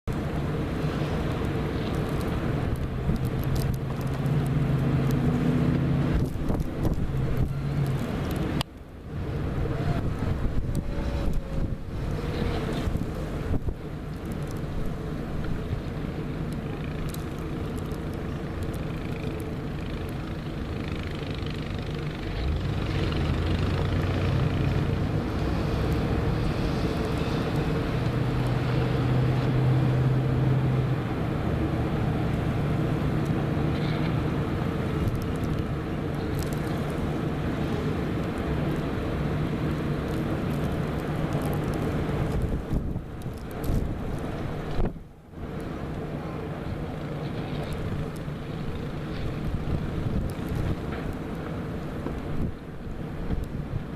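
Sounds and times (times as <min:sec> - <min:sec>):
engine running: 0:00.1 - 0:53.9.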